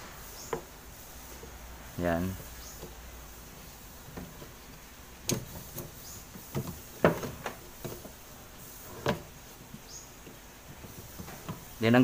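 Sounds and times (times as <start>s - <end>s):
fan belt and pulleys knocking: 2.2s - 12.0s.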